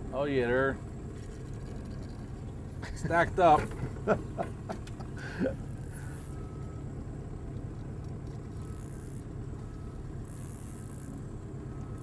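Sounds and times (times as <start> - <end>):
boat motor idling: 0.0 - 12.0.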